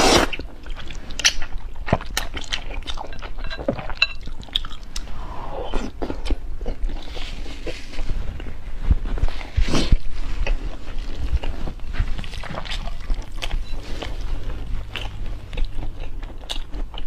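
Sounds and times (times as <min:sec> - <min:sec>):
person chewing food: 0:00.0 - 0:08.5, 0:09.2 - 0:17.0.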